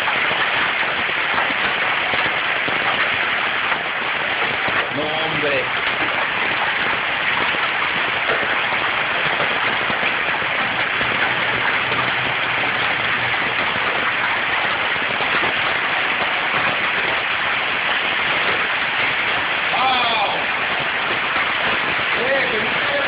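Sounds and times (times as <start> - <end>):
hail pattering on surfaces: 0.0 - 23.0.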